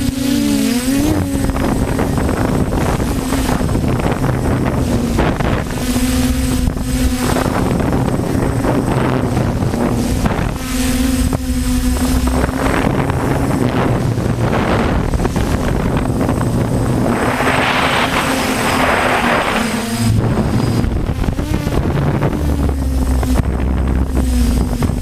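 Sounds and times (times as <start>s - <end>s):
drone propellers buzzing: 0.0s - 25.0s
wind buffeting microphone: 0.0s - 25.0s.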